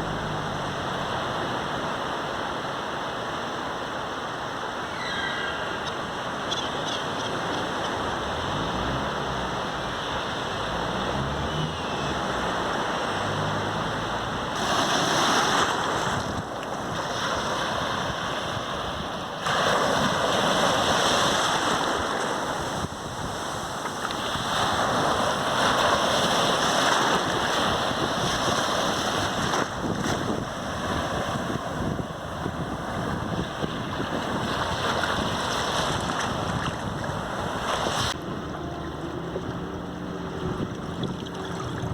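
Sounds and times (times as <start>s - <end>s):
sea surf on sandy beach: 0.0s - 41.9s.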